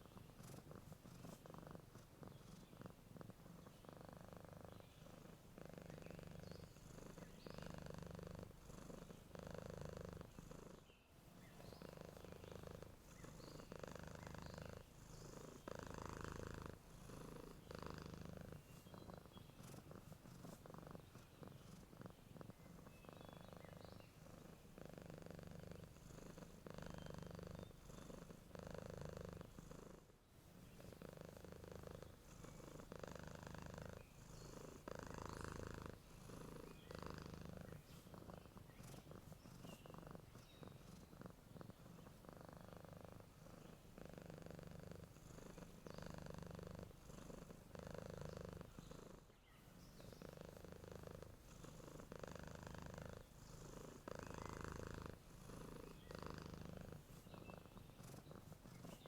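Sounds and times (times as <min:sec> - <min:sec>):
cat purring: 0:00.0 - 0:59.0
faint bird chirps: 0:02.2 - 0:29.9, 0:30.6 - 0:59.0.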